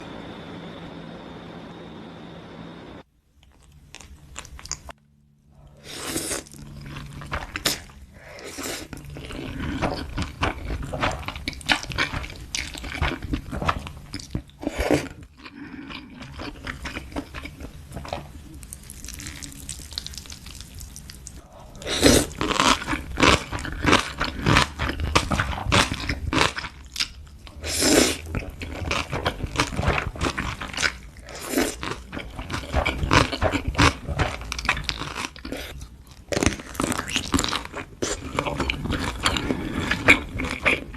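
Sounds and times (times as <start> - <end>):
chewing with crisp crunches: 3.4 - 5.0, 5.6 - 40.9.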